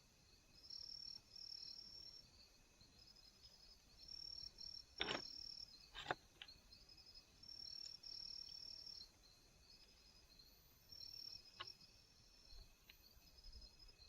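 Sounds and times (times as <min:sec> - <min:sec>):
insects trilling: 0:00.3 - 0:14.0.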